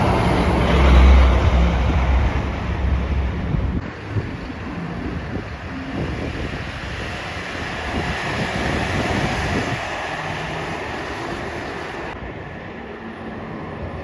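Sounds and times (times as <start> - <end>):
wind on microphone: 0.0 - 12.8
fire truck driving past: 0.0 - 14.0.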